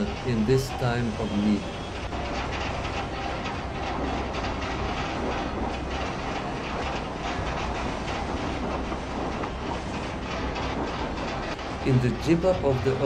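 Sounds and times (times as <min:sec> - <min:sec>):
deep earthquake rumble: 0:00.0 - 0:13.0
objects rattling and clattering: 0:00.0 - 0:13.0.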